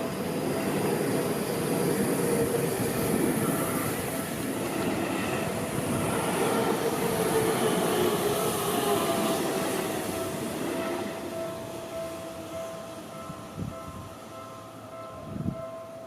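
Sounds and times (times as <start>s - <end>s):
train wheels rumbling on rails: 0.0s - 15.7s.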